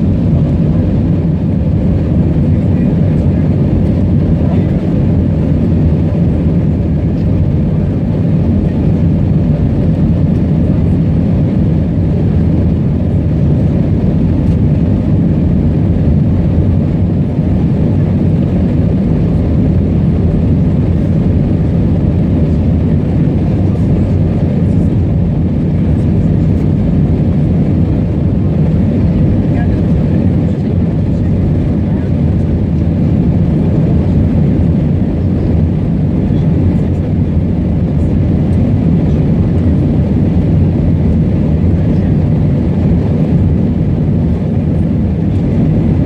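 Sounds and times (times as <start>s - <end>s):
aircraft cabin engine rumble: 0.0s - 46.0s.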